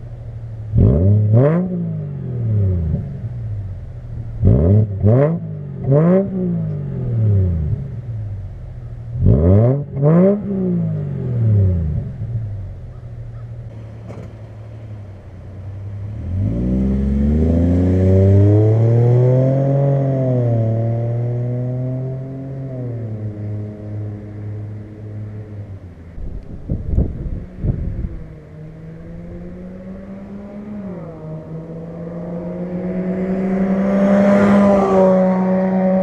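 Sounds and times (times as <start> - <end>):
loud car engine revving: 0.0 - 36.0.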